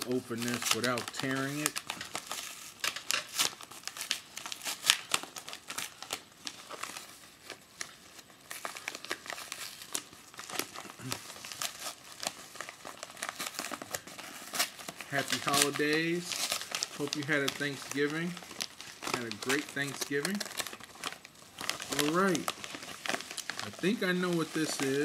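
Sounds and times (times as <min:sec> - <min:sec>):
packaging crinkling: 0:00.0 - 0:25.0
packaging tearing: 0:00.0 - 0:25.0.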